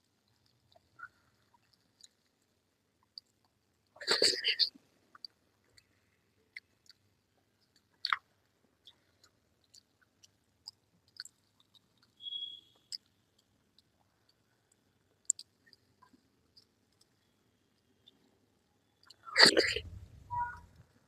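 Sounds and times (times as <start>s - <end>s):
wet chewing mouth clicks: 0.2s - 18.4s.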